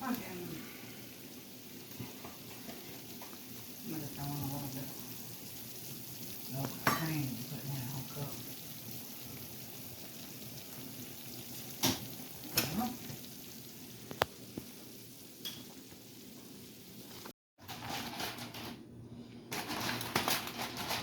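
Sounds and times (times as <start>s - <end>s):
food sizzling in a pan: 0.0s - 17.4s.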